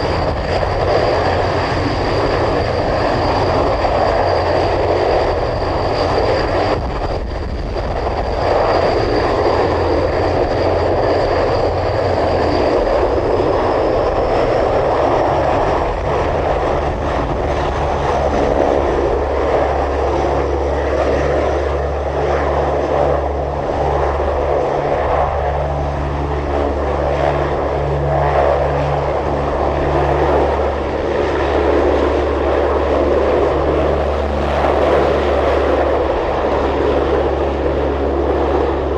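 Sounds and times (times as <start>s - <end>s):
propeller aircraft engines: 0.0s - 38.9s.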